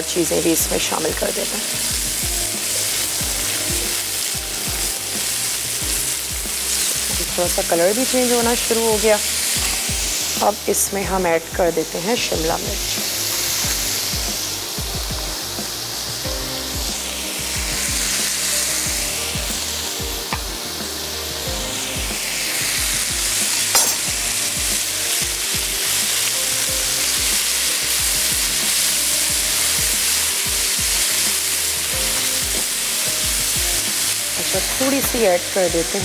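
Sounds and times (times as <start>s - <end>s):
food sizzling in frying pan: 0.0s - 36.0s.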